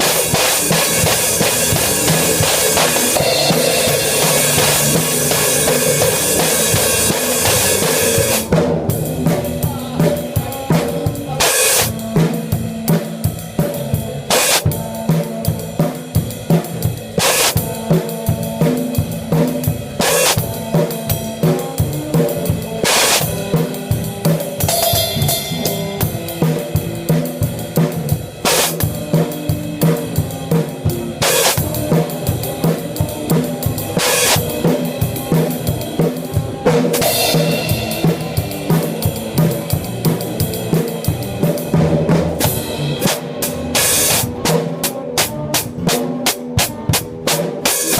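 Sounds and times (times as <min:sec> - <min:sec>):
drum kit playing: 0:00.0 - 0:47.9.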